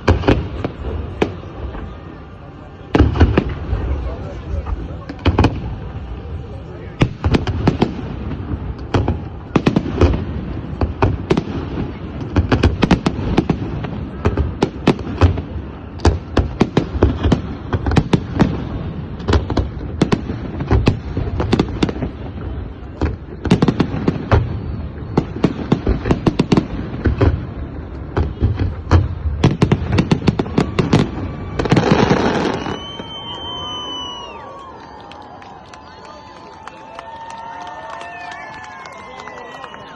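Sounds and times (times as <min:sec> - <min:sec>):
fireworks bangs and cracks: 0:00.0 - 0:35.0.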